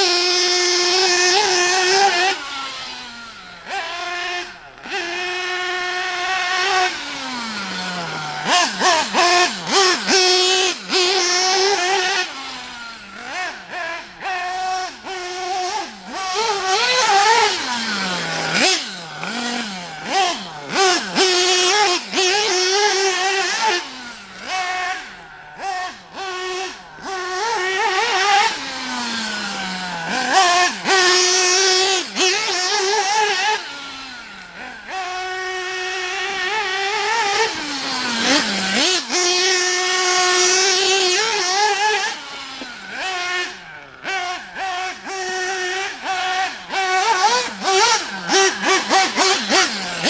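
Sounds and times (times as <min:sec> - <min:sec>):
nitro rc engine revving: 0:00.0 - 0:50.0.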